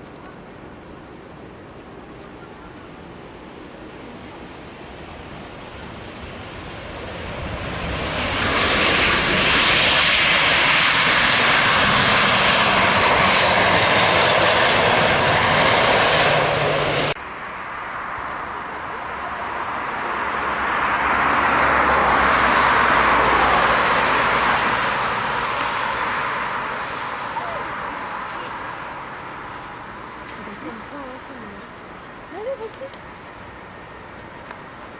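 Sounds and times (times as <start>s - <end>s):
jet airliner roaring overhead: 2.3s - 34.9s.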